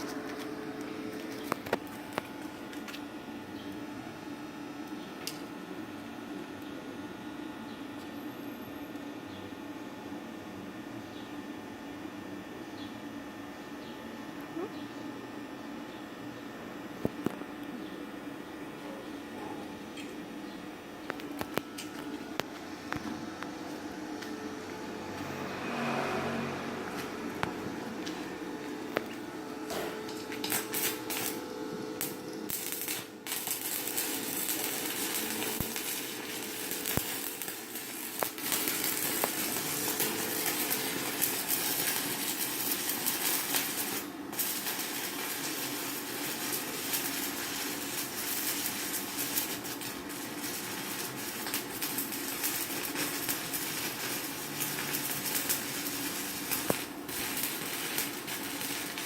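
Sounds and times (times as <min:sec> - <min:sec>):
welding arc crackling sizzle: 0:00.0 - 0:08.1, 0:16.9 - 0:59.0.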